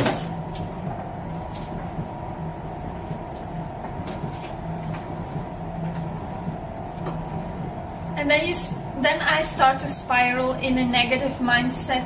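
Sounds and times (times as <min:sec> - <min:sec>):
water pump humming: 0:00.0 - 0:12.0.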